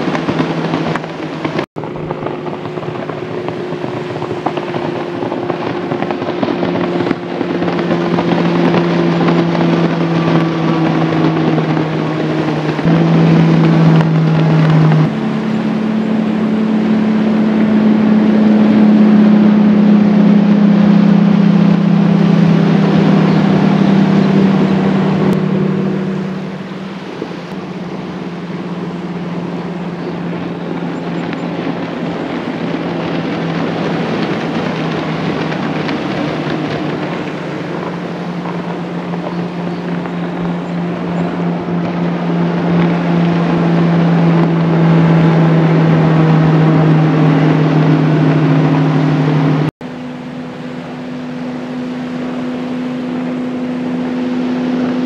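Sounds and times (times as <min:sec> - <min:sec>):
outboard motors droning: 0:00.0 - 0:55.0.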